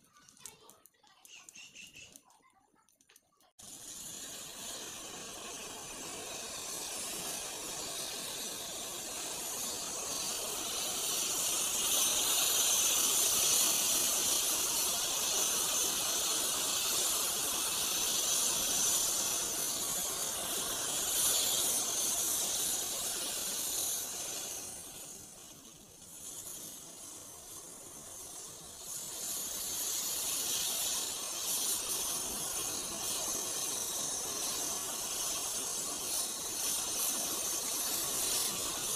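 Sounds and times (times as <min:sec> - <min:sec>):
hiss of igniting matches: 0:00.0 - 0:38.9.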